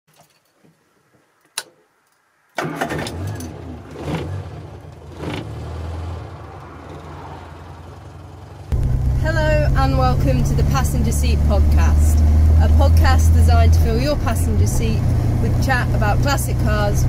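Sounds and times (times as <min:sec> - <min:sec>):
car engine starting and idling: 0:02.5 - 0:17.0.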